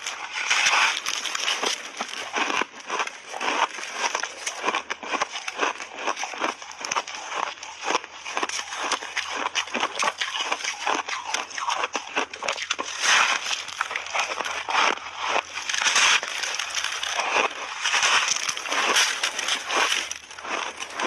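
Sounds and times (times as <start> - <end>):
ice being chewed crunching: 0.0 - 21.0.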